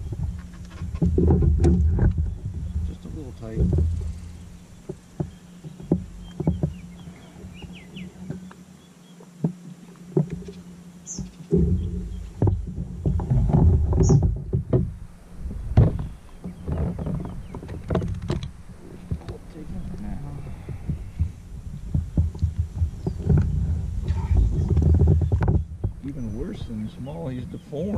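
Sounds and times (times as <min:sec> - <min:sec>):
knocks against boat: 0:00.0 - 0:08.5, 0:09.4 - 0:27.9
wind buffeting microphone: 0:00.0 - 0:08.5, 0:10.2 - 0:27.9
faint low hum: 0:00.0 - 0:27.9
waves lapping against hull: 0:00.0 - 0:27.9.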